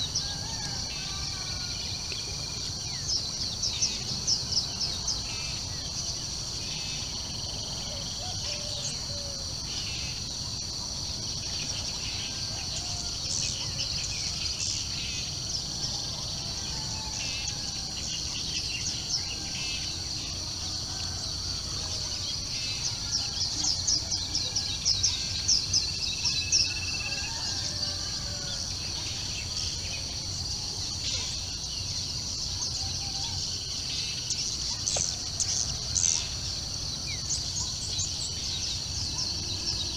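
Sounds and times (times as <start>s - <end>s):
high drone of insects: 0.0s - 39.9s.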